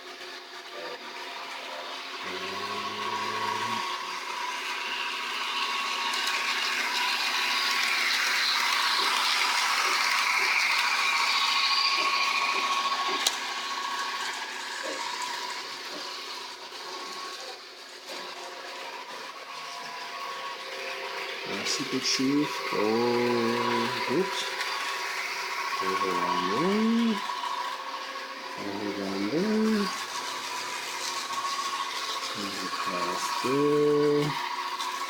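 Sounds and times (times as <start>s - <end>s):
model train motor whine: 0.0s - 35.0s.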